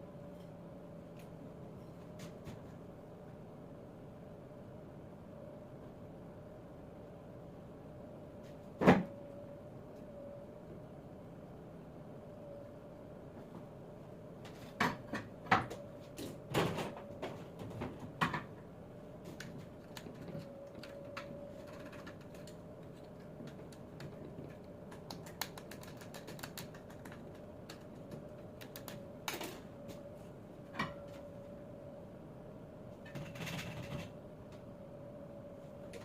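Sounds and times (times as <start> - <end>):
steady faint hum: 0.0 - 36.0.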